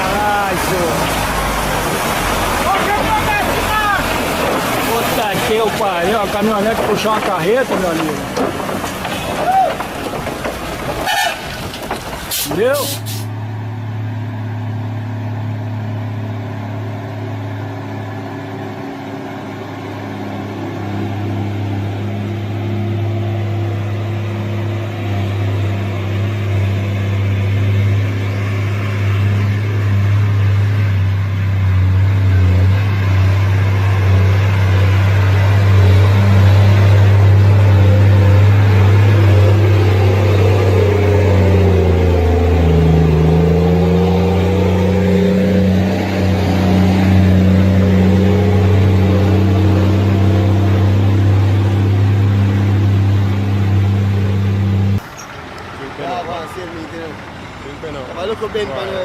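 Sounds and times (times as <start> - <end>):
vehicle engine running under load: 0.0 - 59.0.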